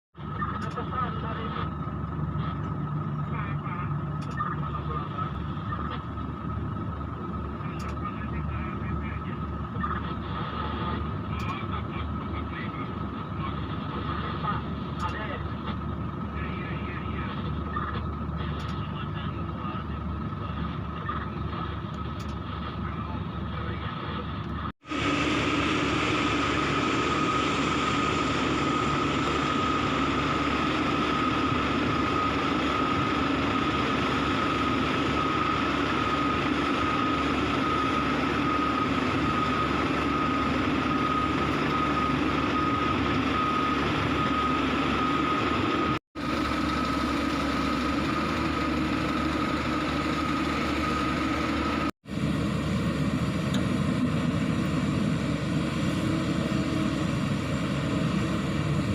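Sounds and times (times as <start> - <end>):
excavator diesel engine running: 0.2 - 58.9
high whine: 0.2 - 58.9.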